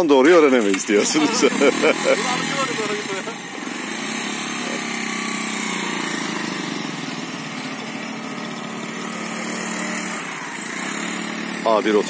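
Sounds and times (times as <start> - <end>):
motorcycle engines at low revs: 0.0 - 12.0.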